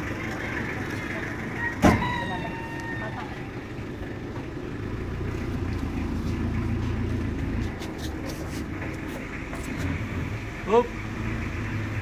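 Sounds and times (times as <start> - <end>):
pickup truck engine rumble: 0.0 - 12.0
road noise: 0.0 - 12.0.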